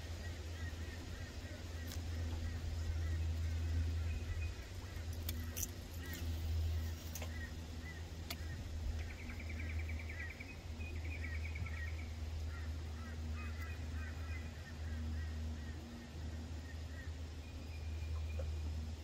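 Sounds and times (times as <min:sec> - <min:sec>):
birds chirping: 0:00.0 - 0:19.0
steady low rumble: 0:00.0 - 0:19.0.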